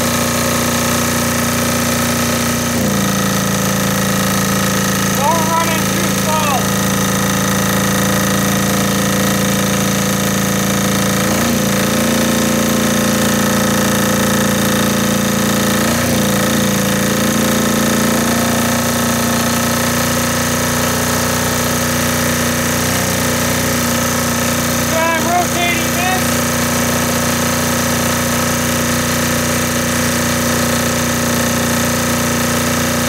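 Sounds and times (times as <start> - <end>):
diesel generator running: 0.0 - 33.0.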